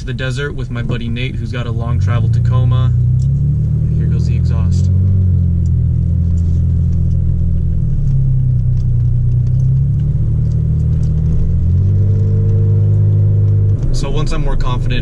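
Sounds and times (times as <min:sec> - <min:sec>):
truck exhaust drone from inside: 0:00.0 - 0:15.0.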